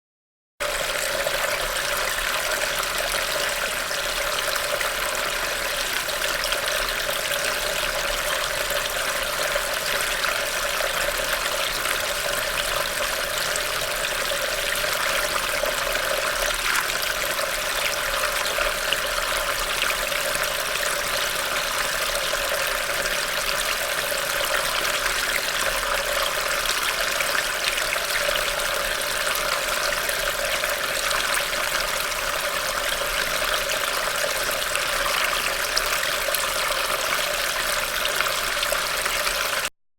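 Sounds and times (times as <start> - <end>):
rainwater trickling into drain: 0.6 - 39.7.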